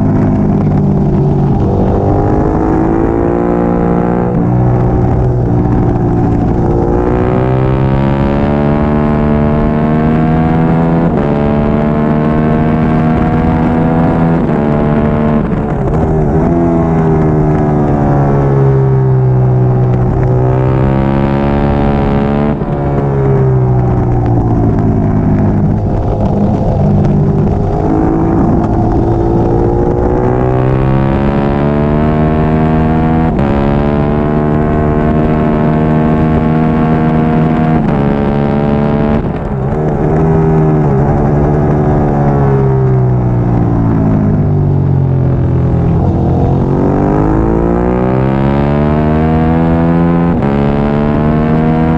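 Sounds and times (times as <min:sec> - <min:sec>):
motorcycle engine revving hard: 0:00.0 - 0:51.9.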